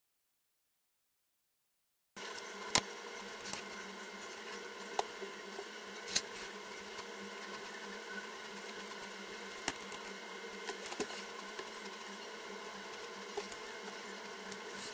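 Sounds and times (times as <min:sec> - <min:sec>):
constant hum: 0:02.2 - 0:14.9.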